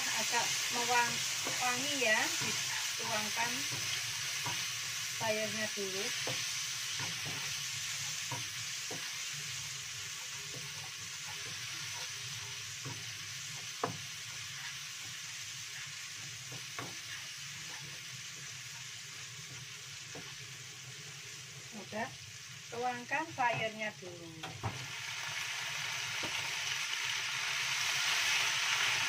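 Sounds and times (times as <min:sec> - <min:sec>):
paste sizzling in hot oil: 0:00.0 - 0:29.0.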